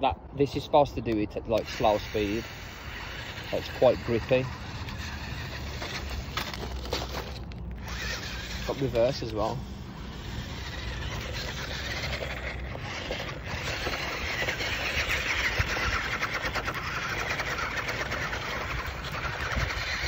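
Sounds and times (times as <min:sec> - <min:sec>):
toy car motor whining: 0:01.5 - 0:20.0.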